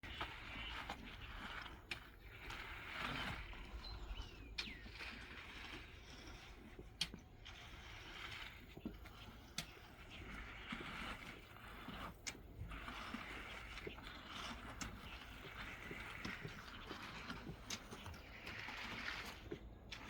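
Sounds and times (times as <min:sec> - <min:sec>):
concrete pump low rumble: 0:00.0 - 0:20.0.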